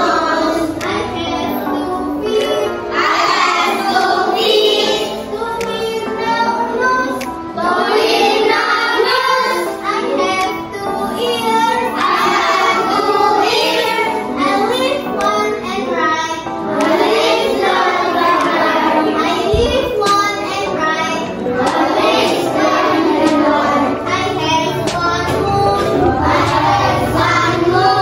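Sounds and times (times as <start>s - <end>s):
children singing over music: 0.0s - 28.0s.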